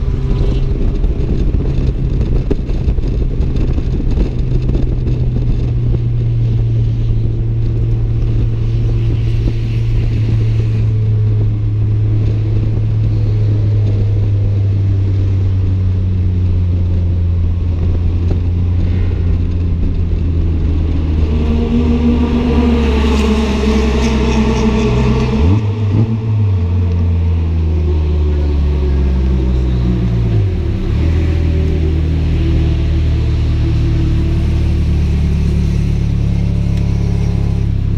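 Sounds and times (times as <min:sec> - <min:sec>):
car engine from inside cabin: 0:00.0 - 0:37.9.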